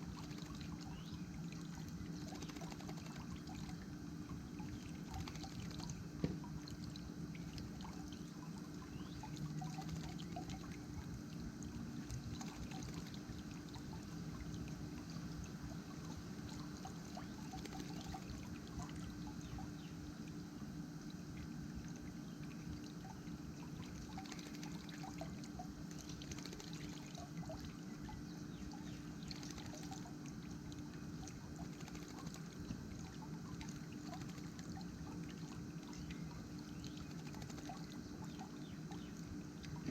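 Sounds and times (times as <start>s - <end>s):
steady low hum: 0.0s - 39.9s
water splashing in a bird bath: 0.0s - 39.9s.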